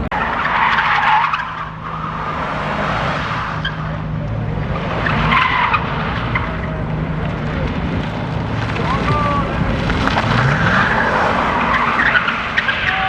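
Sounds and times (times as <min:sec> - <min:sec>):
car engine droning: 0:00.0 - 0:13.0
tyres screeching: 0:00.0 - 0:13.0.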